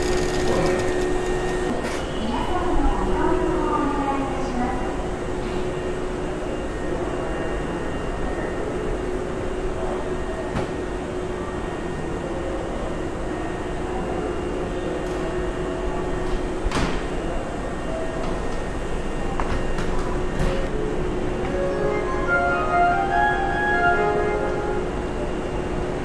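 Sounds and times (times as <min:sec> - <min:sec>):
idling train hum and hiss: 0:00.0 - 0:26.0.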